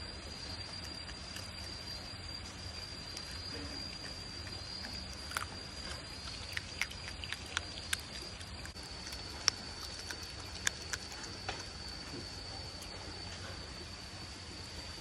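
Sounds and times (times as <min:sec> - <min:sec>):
high insect trill: 0:00.0 - 0:15.0
otter chewing fish: 0:00.4 - 0:13.0.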